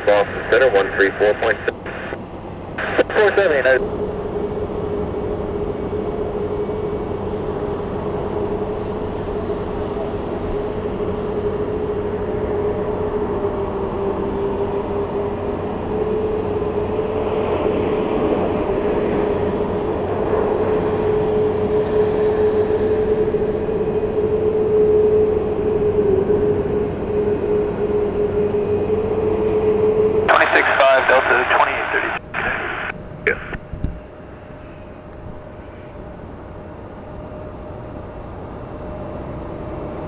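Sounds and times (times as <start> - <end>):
jet engines roaring: 0.0 - 24.5, 25.2 - 37.2.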